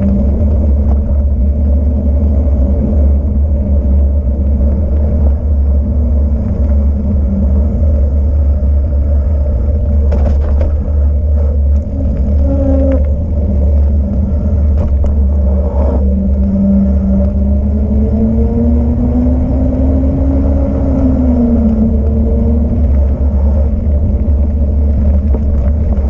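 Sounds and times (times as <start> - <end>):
wind and road noise rumble: 0.0 - 26.0.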